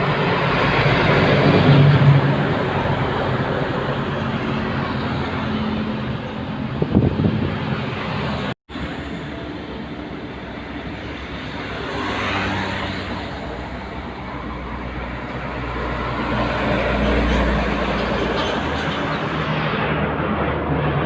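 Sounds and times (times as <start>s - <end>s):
heavy truck passing close: 0.0s - 21.0s
road traffic: 0.0s - 21.0s.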